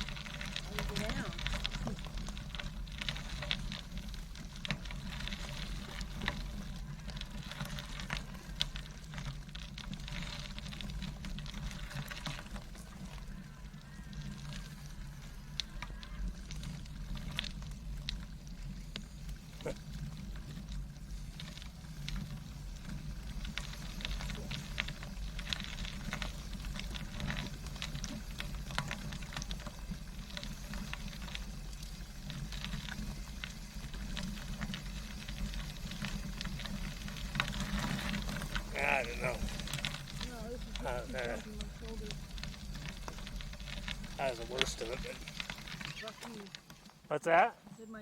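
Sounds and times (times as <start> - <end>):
bicycle clicks and rattles: 0.0 - 47.0
bicycle rumbling over rough trail: 0.0 - 48.0.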